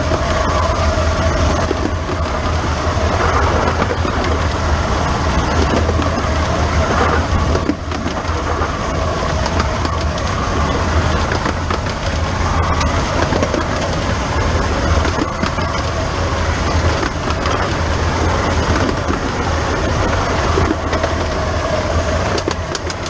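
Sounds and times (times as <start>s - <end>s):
steam locomotive wheels clattering: 0.0s - 23.0s.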